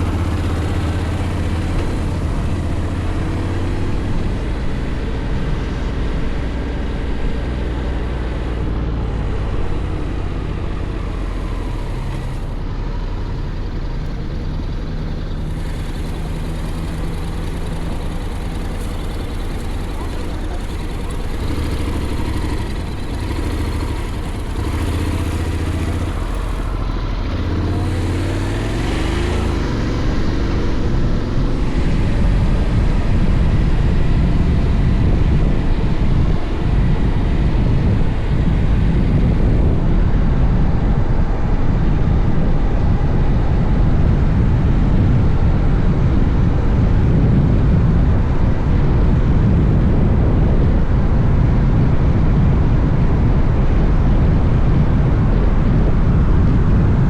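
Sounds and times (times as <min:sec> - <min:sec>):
motorcycle engine accelerating: 0:00.0 - 0:57.0
wind rumble on microphone: 0:00.0 - 0:57.0.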